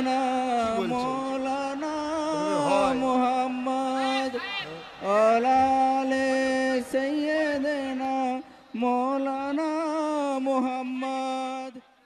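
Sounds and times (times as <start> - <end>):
man singing unaccompanied: 0.0 - 4.4, 5.0 - 12.0.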